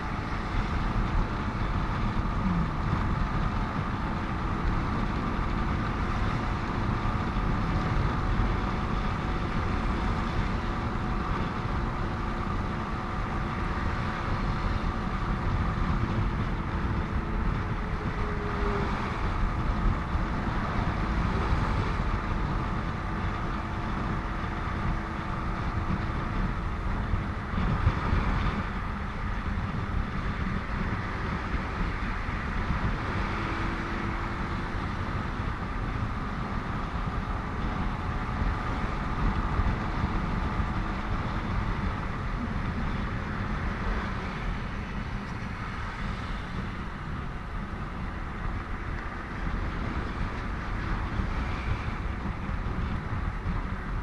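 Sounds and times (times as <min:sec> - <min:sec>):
faint motorcycle engine hum: 0:00.0 - 0:54.0
wind and road noise: 0:00.0 - 0:54.0.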